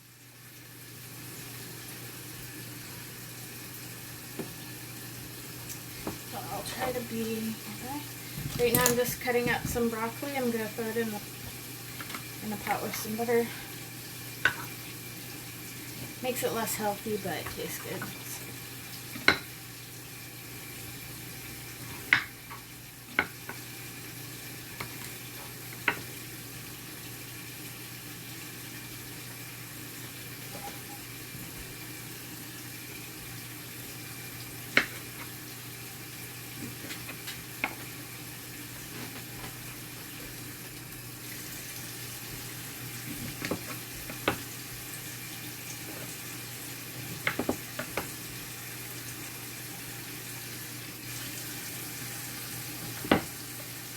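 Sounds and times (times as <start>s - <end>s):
steady kitchen hiss: 0.0s - 53.9s.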